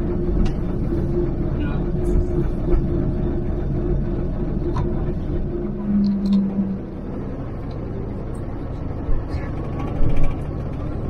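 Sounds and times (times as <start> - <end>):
bus engine hum from inside: 0.0 - 11.0.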